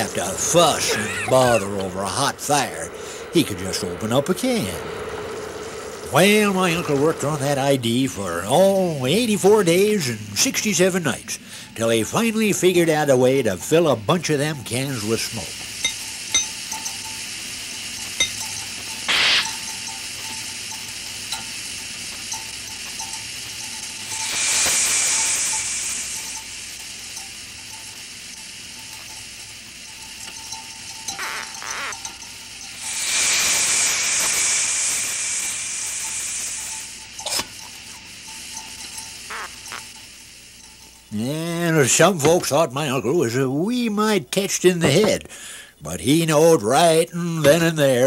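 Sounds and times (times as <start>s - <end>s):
gas hissing: 0.0s - 48.0s.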